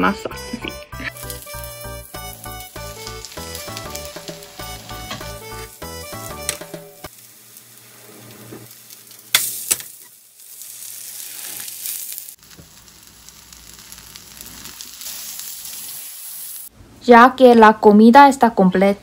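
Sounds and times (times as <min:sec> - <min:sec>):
batter sizzling in oil: 0:01.1 - 0:16.7.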